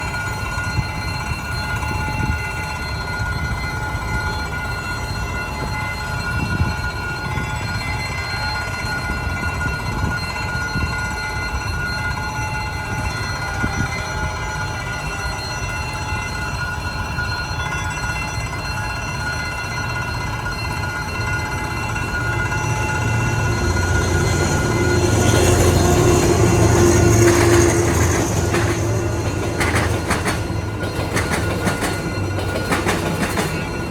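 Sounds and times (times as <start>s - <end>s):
train rumbling with whining tones: 0.0s - 33.9s
train wheel and rail noise: 0.0s - 33.9s.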